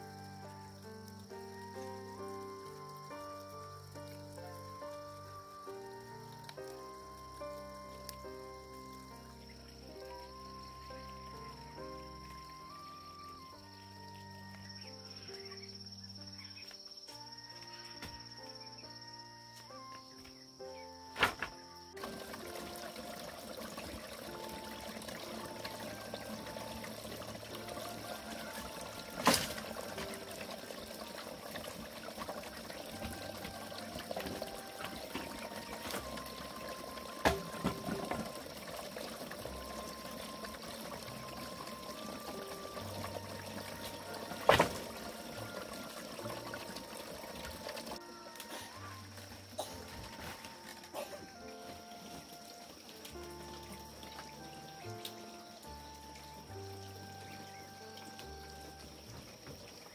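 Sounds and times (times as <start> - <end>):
running water: 0.0 - 16.3, 21.0 - 59.9
soft background music: 0.0 - 59.9.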